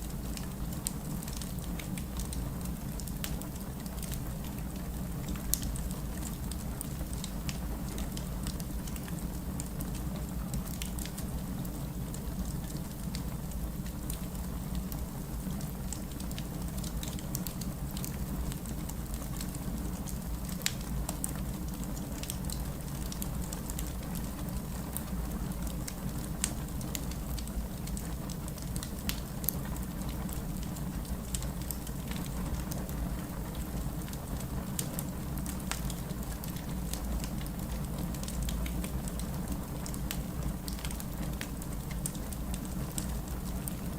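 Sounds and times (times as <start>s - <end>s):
wood fire crackling and popping: 0.1s - 43.9s.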